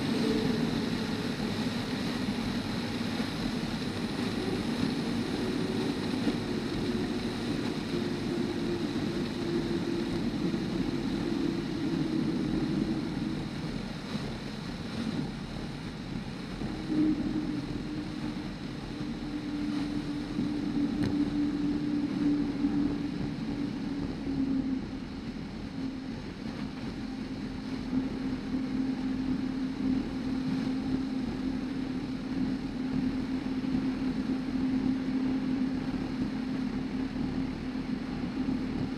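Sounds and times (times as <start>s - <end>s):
light aircraft engine and propeller: 0.0s - 38.9s
wind: 0.0s - 38.9s.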